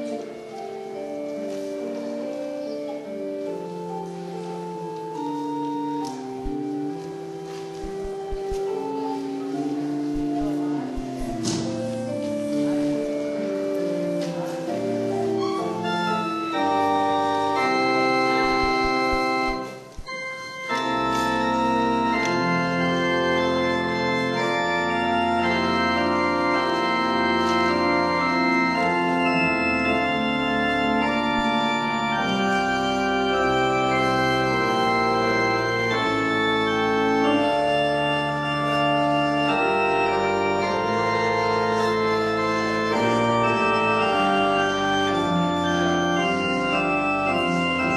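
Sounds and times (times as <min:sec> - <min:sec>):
church organ chords: 0:00.0 - 0:47.9.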